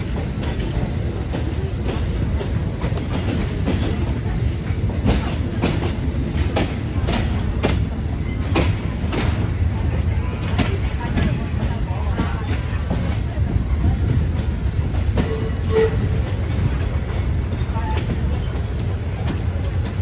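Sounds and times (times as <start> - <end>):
train rumbling: 0.0 - 20.0
wheels clacking over rail joints: 0.0 - 20.0.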